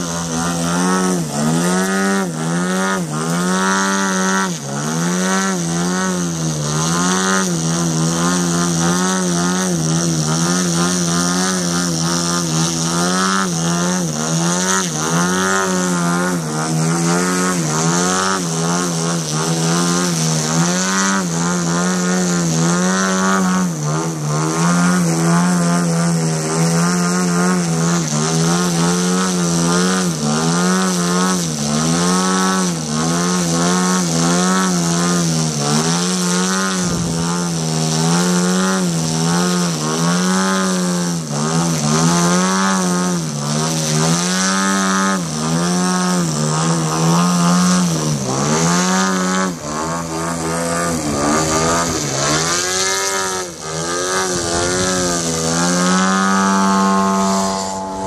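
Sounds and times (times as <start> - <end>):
model plane motor and propeller: 0.0 - 58.0.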